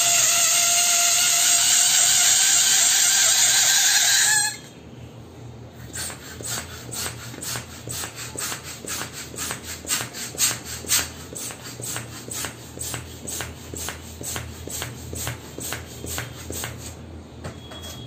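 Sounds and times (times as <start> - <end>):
hand pump air swishes: 0.0 - 4.7, 5.8 - 17.0.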